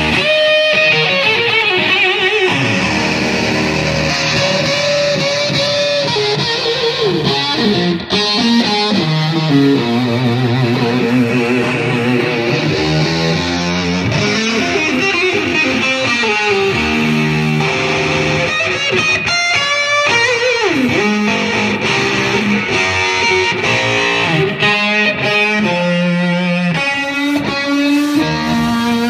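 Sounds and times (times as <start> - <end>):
fuzzy electric guitar lead: 0.0 - 29.0.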